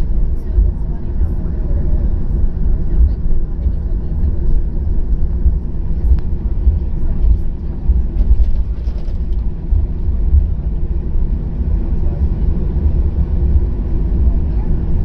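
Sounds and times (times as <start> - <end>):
jet engines low rumble: 0.0 - 15.0.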